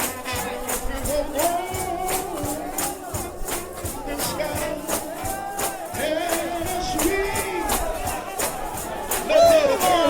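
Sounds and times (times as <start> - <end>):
brass playing a sliding melody: 0.0 - 10.0
drums: 0.0 - 10.0
tambourine: 0.0 - 10.0.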